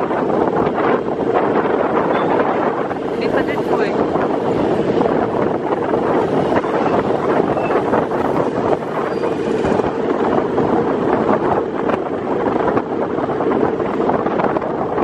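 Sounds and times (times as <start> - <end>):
vehicle running noise: 0.0 - 15.0
wind on microphone: 0.0 - 15.0.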